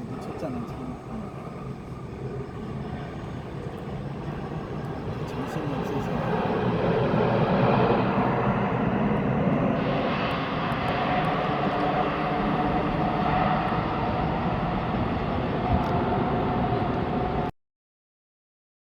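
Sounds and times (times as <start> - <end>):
jet engines roaring: 0.0 - 17.5.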